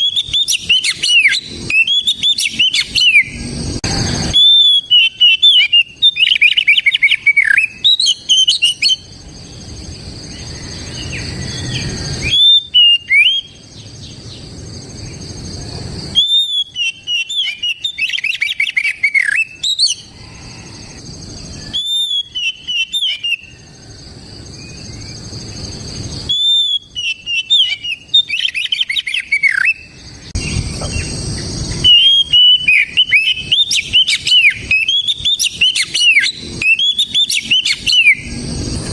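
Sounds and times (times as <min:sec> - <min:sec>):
bird singing whistles and chatter: 0:00.0 - 0:09.2, 0:10.3 - 0:14.4, 0:16.1 - 0:38.8.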